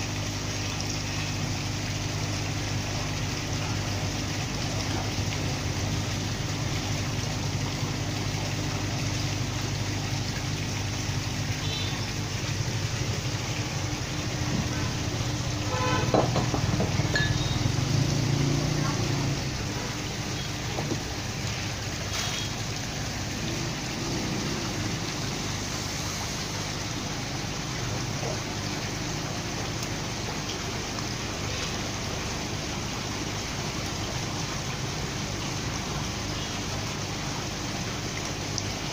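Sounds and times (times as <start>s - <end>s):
pond water rushing and splashing: 0.0s - 38.9s.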